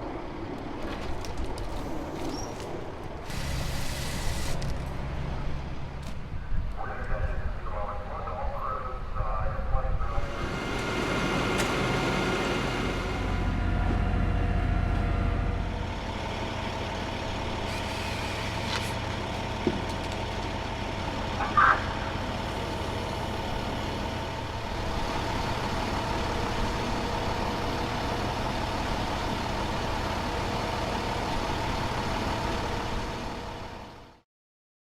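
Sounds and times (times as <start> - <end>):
truck engine droning: 0.0 - 9.0, 9.9 - 34.2.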